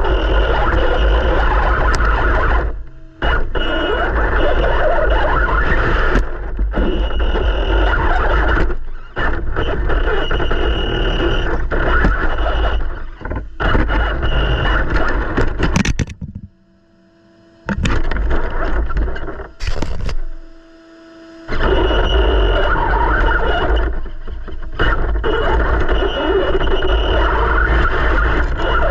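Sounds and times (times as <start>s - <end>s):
high motor whine: 0.0s - 28.9s.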